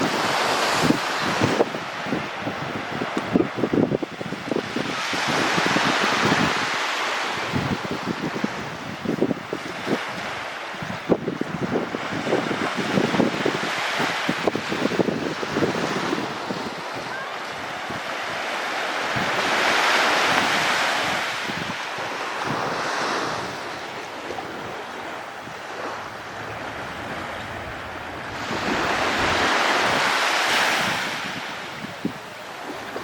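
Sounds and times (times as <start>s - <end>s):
surf breaking on beach: 0.0s - 33.0s
wind buffeting microphone: 0.0s - 33.0s.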